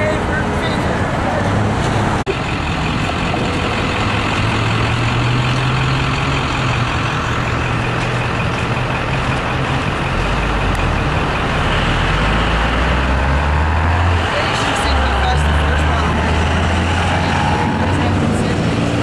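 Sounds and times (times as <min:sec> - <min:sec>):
deep engine hum: 0:00.0 - 0:19.0
heavy vehicle engine hum: 0:00.0 - 0:19.0
passing vehicles rushing: 0:00.0 - 0:19.0.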